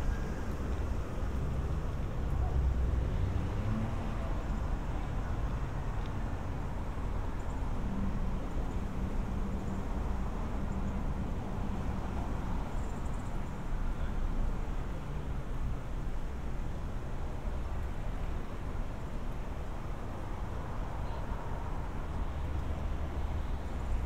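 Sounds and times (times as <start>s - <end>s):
rumble of passing cars: 0.0s - 24.0s.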